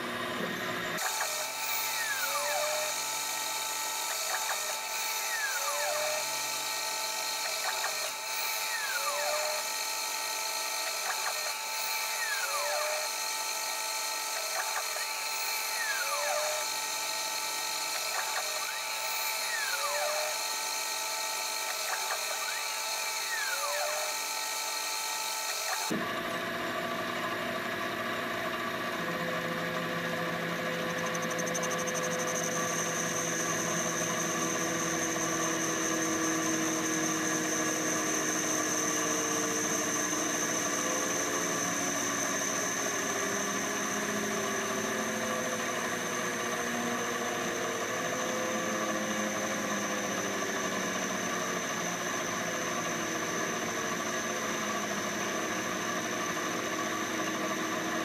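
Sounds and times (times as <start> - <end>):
high whine: 0.0 - 26.0, 29.2 - 57.7
lathe machine hum: 0.0 - 58.0.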